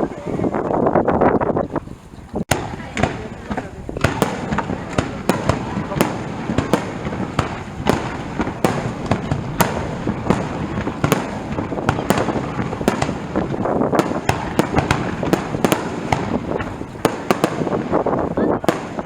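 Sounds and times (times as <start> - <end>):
fireworks crackling: 0.0 - 19.0
fireworks bangs: 1.6 - 19.0.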